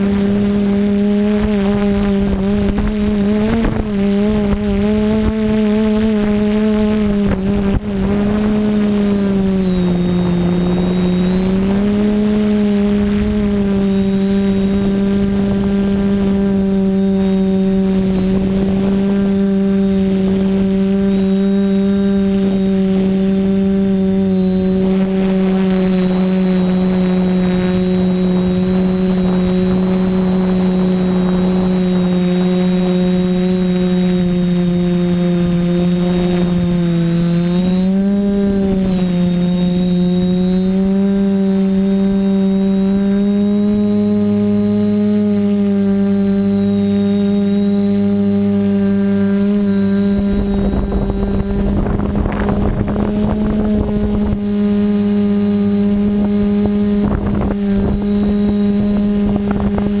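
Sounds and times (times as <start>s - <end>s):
quadcopter propellers buzzing: 0.0s - 60.0s.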